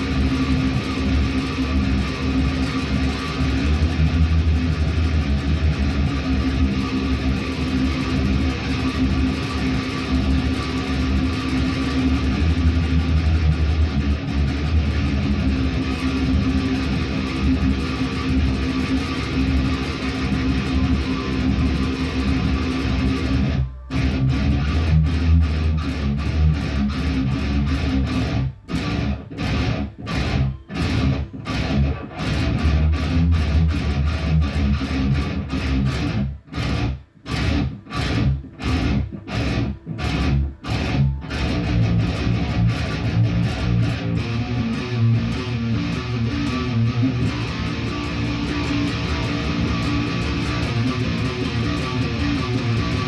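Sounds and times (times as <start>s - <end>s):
guitar chords strummed: 0.0s - 53.0s.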